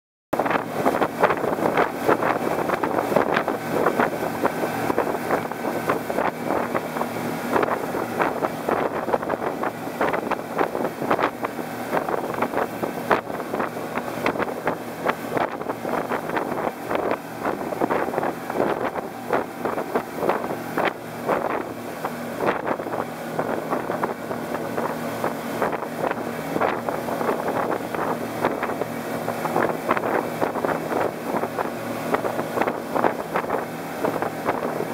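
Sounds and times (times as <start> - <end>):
outboard motors running: 0.4 - 34.9
water rushing and splashing: 0.4 - 34.9
wind buffeting microphone: 0.4 - 34.9.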